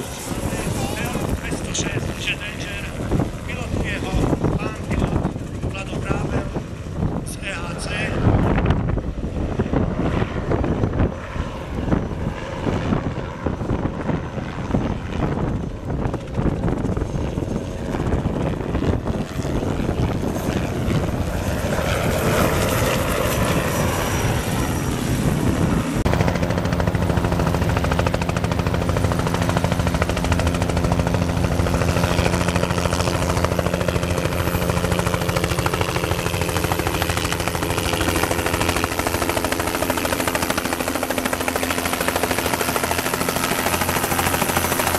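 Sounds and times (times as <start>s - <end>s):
helicopter rotor and turbine: 0.0s - 44.9s.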